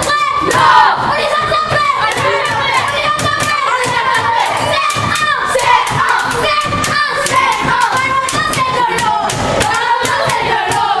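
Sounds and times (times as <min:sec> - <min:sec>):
boys chanting and singing: 0:00.0 - 0:11.0
rhythmic hand claps and thumps: 0:00.0 - 0:11.0.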